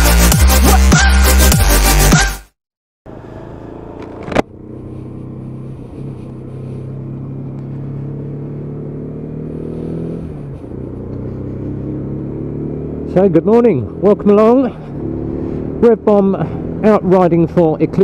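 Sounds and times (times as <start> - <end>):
motorcycle engine running: 3.1 - 18.0.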